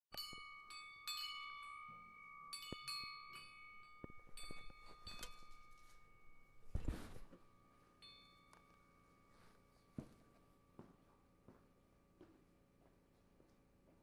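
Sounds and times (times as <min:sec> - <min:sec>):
faint chimes ringing: 0:00.1 - 0:12.2.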